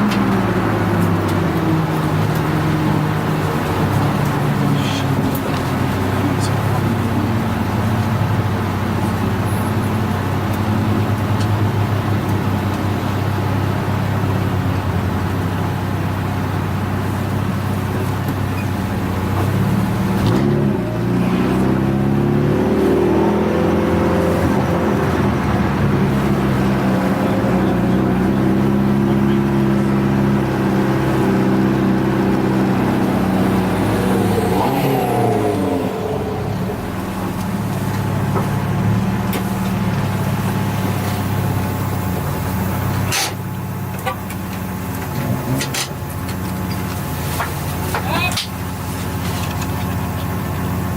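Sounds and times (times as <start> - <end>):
car engine humming: 0.0 - 50.9.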